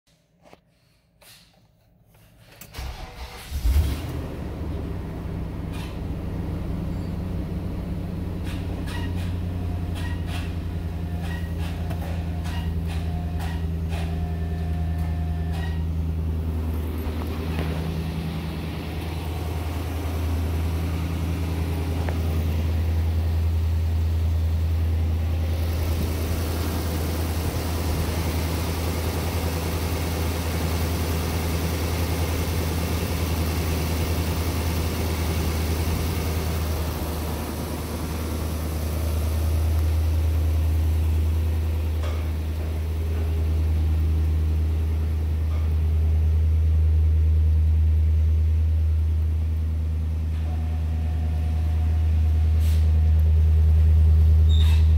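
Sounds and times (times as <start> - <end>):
car engine idling: 2.7 - 54.9.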